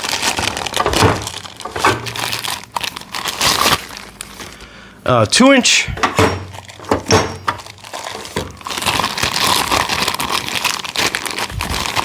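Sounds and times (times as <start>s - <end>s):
plastic crinkling: 0.0s - 4.7s, 6.4s - 12.0s.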